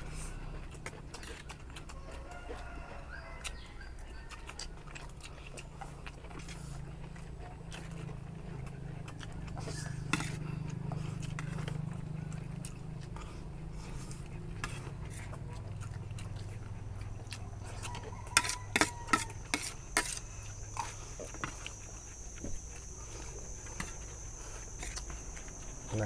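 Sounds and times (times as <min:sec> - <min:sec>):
chewing: 0:00.0 - 0:26.0
steady low hum: 0:00.0 - 0:26.0.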